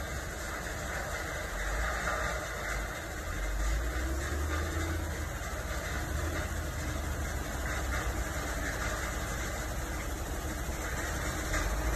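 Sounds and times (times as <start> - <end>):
machinery hum and rumble: 0.0 - 11.9.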